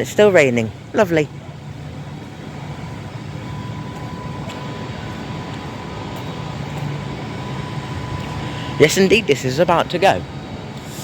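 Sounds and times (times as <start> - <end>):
electric train rumble and hiss: 0.0 - 11.0.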